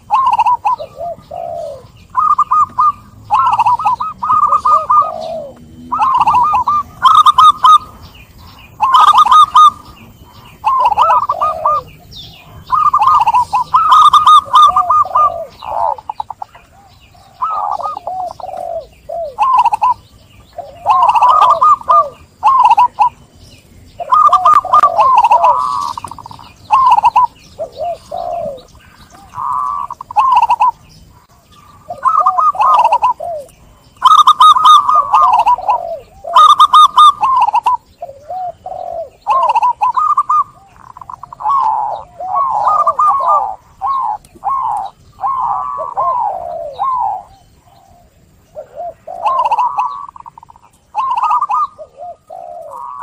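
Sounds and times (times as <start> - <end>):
doves cooing: 0.0 - 53.0.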